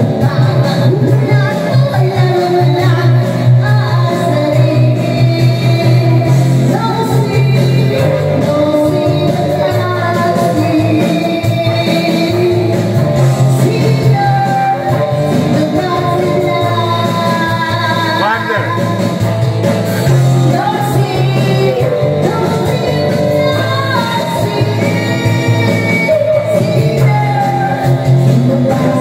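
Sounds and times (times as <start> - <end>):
music backing track: 0.0 - 29.0
woman singing into a microphone: 0.0 - 29.0.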